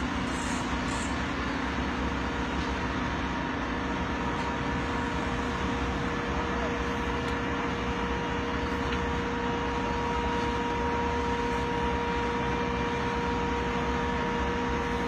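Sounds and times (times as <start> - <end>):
crane engine drone: 0.0 - 15.0
steady whine: 0.0 - 15.0.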